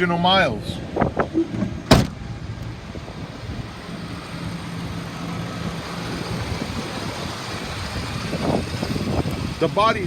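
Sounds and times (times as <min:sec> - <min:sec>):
truck engine idling: 0:00.7 - 0:10.0.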